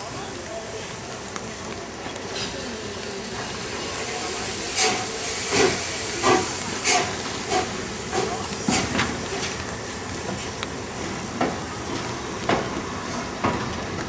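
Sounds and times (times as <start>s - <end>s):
steady steam hiss: 0.0s - 14.0s
steam locomotive chuffing: 0.0s - 14.0s.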